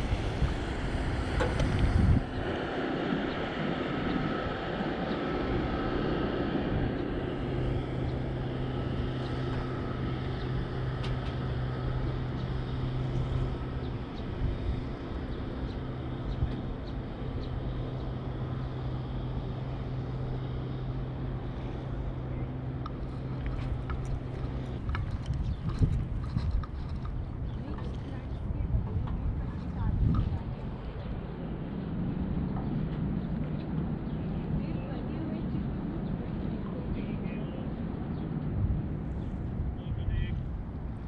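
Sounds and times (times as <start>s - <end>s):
low engine drone: 0.0s - 41.0s
water noise: 0.0s - 41.0s
wind: 0.0s - 41.0s.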